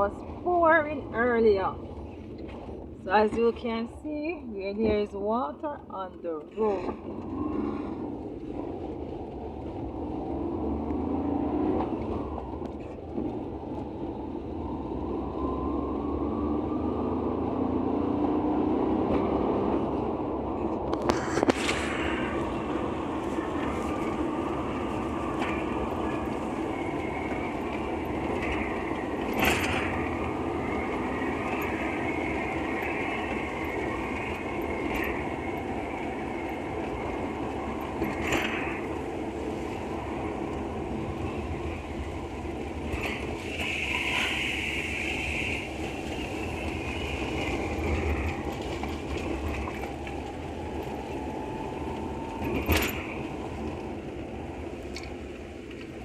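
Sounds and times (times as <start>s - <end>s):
road noise on wet road: 0.0s - 56.0s.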